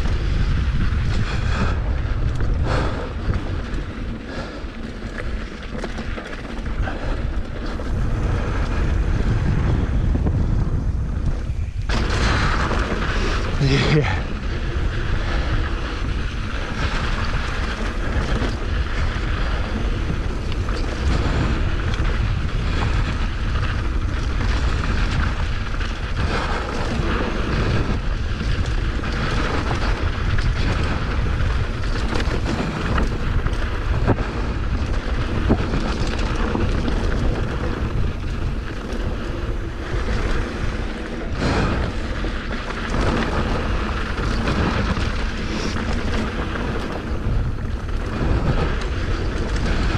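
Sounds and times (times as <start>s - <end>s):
bike knocking and rattling: 0.0s - 49.9s
tyres rumbling on loose dirt: 0.0s - 49.9s
wind buffeting microphone: 0.0s - 49.9s.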